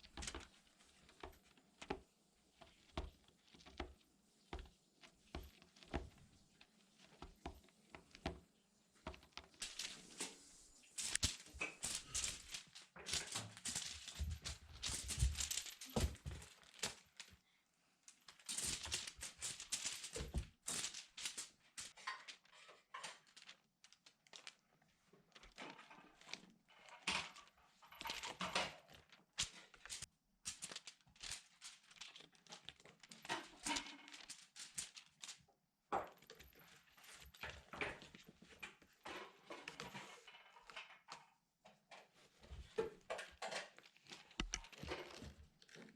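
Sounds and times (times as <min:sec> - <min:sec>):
cat rustling and scratching: 0:00.0 - 0:35.6, 0:36.2 - 0:45.9.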